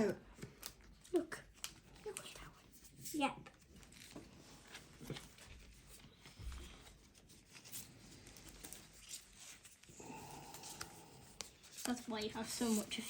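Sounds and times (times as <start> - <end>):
cards and wrappers rustling: 0.0 - 13.0.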